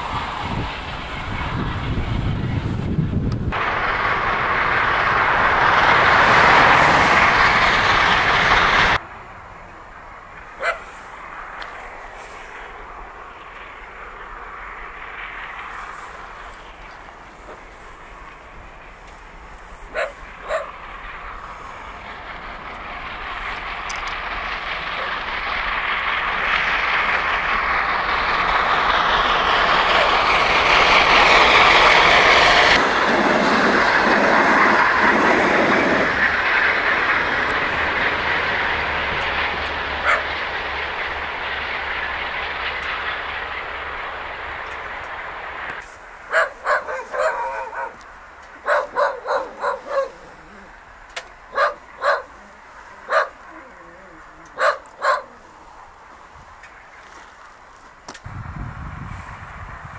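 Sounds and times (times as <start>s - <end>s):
steam locomotive passing: 0.0s - 59.9s.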